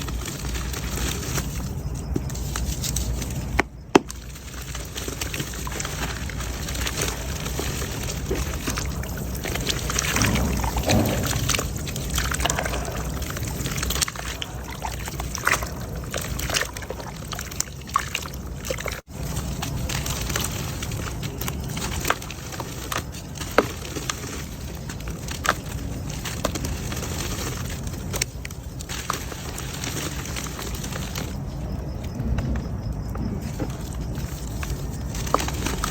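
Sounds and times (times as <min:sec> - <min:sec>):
wet mud crumbling into water: 0:00.0 - 0:31.4, 0:32.2 - 0:35.9.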